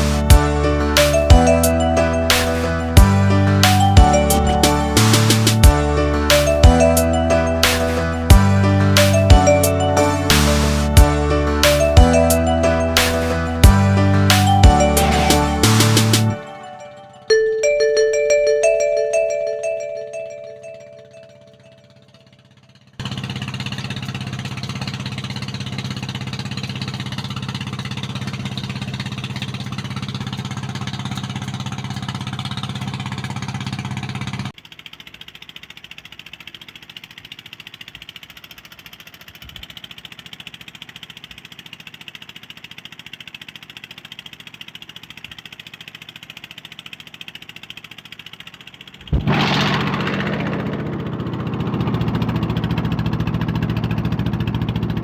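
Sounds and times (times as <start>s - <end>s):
engine idling: 0.0s - 17.3s, 18.2s - 55.0s.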